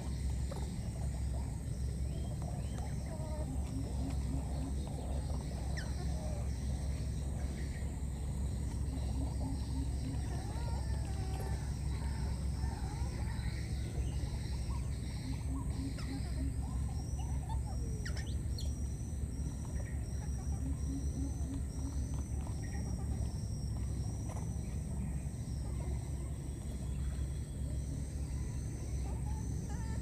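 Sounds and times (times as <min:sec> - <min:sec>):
bird calls: 0:00.0 - 0:30.0
steady low rumble: 0:00.0 - 0:30.0.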